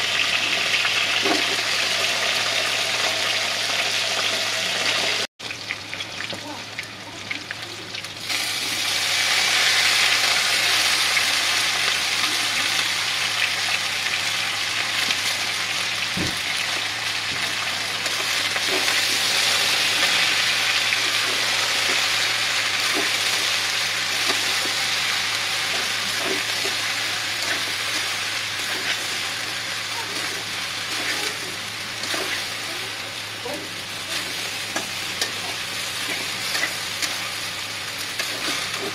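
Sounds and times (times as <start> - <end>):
vegetables sizzling in oil: 0.0 - 38.9.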